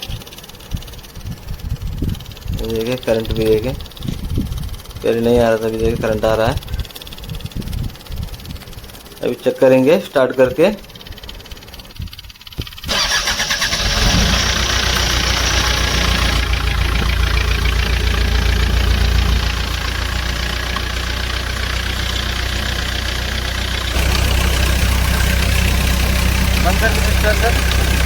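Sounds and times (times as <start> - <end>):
diesel engine cranking and running: 0.0 - 28.0.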